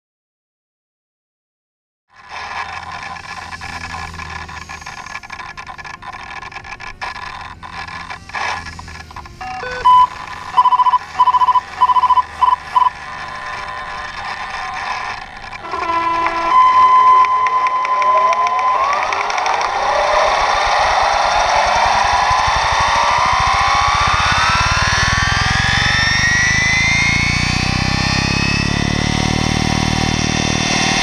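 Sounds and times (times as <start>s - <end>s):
steady background noise: 2.2s - 28.8s
motor high tone: 2.2s - 31.0s
speed controller beeps: 2.5s - 28.6s.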